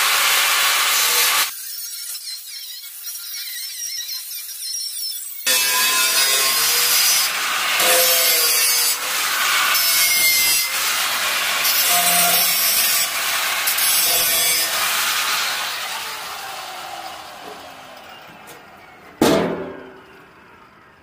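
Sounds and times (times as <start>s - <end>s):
angle grinder grinding metal: 0.0s - 20.3s.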